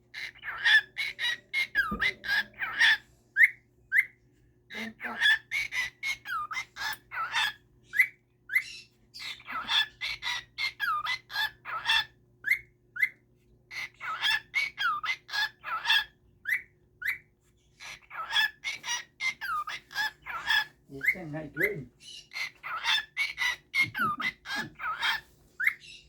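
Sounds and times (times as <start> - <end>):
bird chirping and squawking: 0.0 - 26.0.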